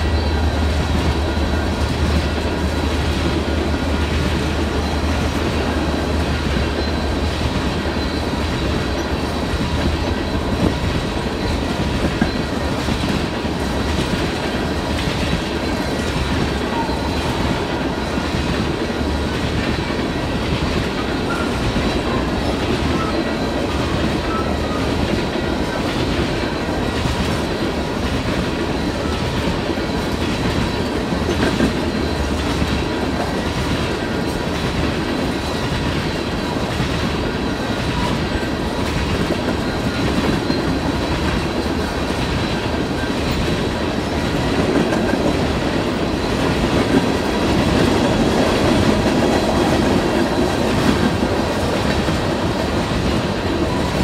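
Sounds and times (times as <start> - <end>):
freight train rumbling: 0.0 - 54.0
wheels clacking over rail joints: 0.0 - 54.0.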